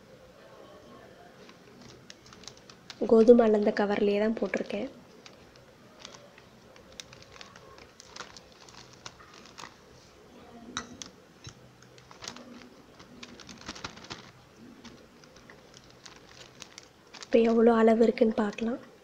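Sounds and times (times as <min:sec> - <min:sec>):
plastic bag crinkling: 0:01.4 - 0:18.8.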